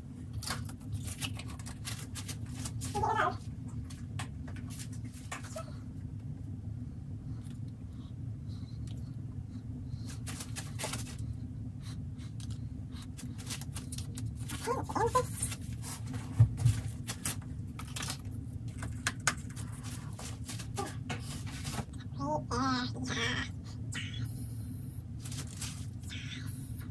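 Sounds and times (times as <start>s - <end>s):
low room hum: 0.0s - 26.9s.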